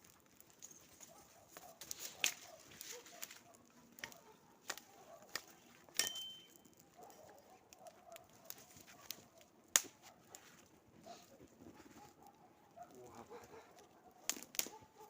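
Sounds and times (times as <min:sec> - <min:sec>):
wood snapping and cracking: 0:00.0 - 0:10.7, 0:11.7 - 0:15.0.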